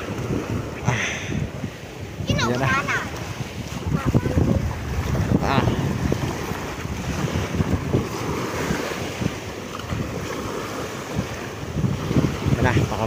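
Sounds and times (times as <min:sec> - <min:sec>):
sea waves washing: 0:00.0 - 0:13.0
wind buffeting the microphone: 0:00.0 - 0:13.0.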